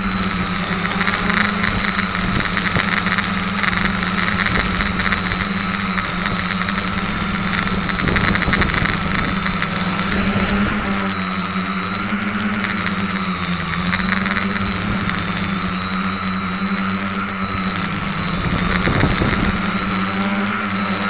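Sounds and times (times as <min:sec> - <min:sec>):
quadcopter propellers whirring: 0:00.0 - 0:21.0.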